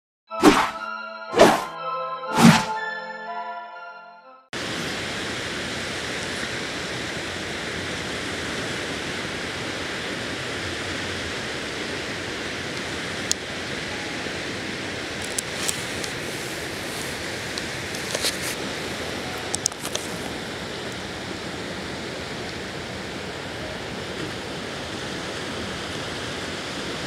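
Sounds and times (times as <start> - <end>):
small waves washing ashore: 4.6 - 27.0.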